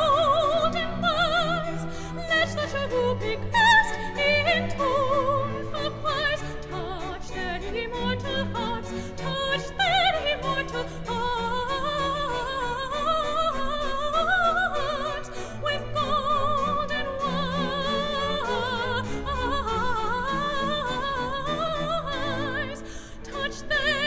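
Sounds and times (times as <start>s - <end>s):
operatic voice singing: 0.0s - 24.0s.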